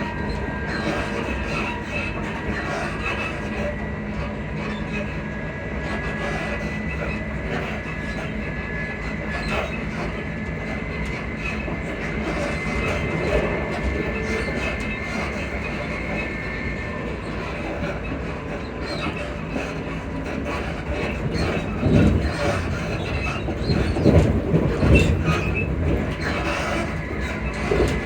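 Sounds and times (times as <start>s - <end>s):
suspension squeaks and clicks: 0.0s - 28.0s
wheels rumbling on track: 0.0s - 28.0s.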